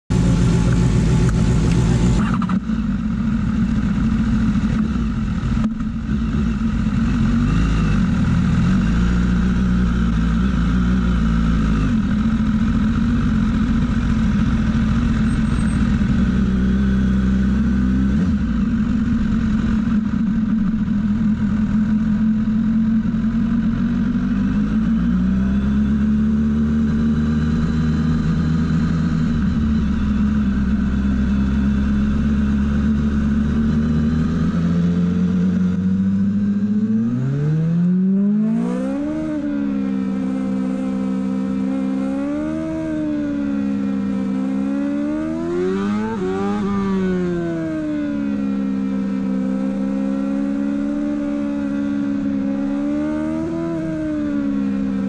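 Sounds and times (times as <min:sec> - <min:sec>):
motorcycle engine revving: 0:00.1 - 0:55.0.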